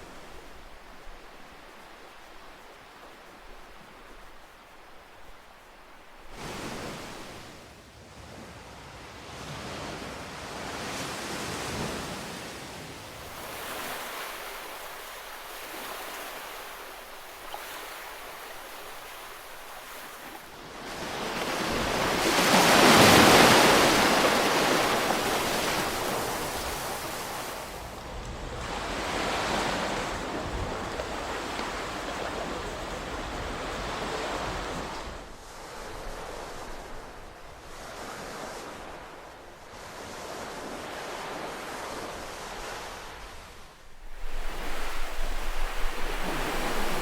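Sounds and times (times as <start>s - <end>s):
ocean waves breaking: 0.0s - 7.7s, 9.4s - 47.0s.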